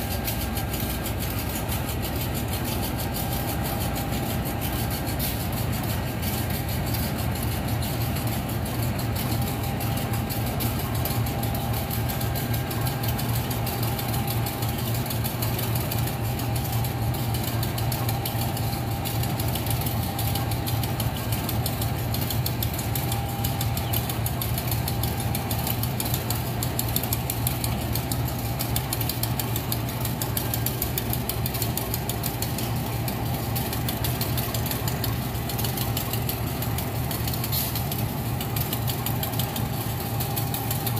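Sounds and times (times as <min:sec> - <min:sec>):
locomotive engine idling: 0:00.0 - 0:40.9.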